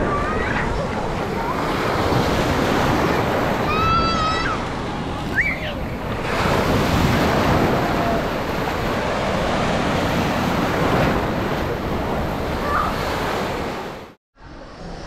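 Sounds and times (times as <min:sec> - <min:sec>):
wind buffeting microphone: 0:00.0 - 0:14.1
sea waves breaking on beach: 0:00.0 - 0:14.2.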